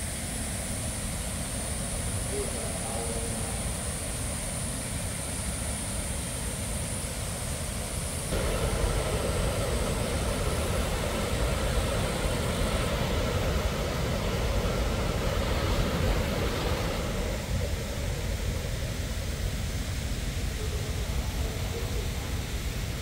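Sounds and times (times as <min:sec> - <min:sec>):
waterfall roaring: 0:01.8 - 0:23.0.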